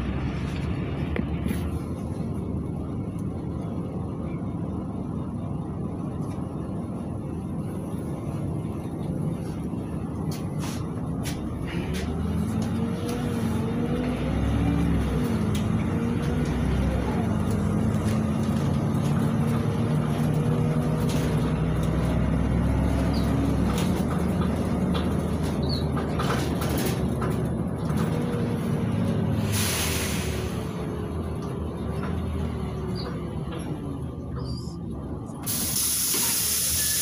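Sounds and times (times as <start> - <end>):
bus engine running: 0.0 - 37.0
road rumble: 0.0 - 37.0.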